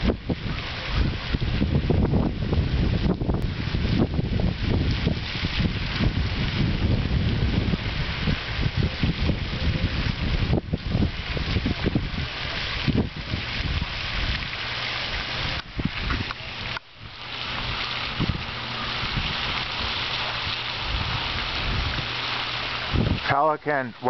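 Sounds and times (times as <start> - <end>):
wind buffeting microphone: 0.0 - 23.4.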